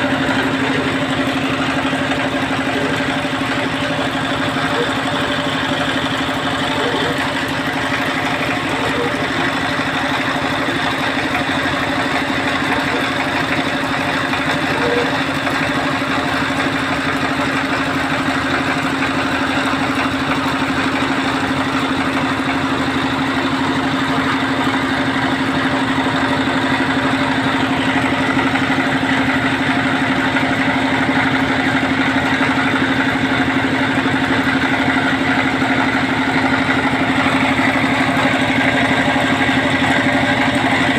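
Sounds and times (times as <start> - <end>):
drilling machine engine running: 0.0 - 40.9.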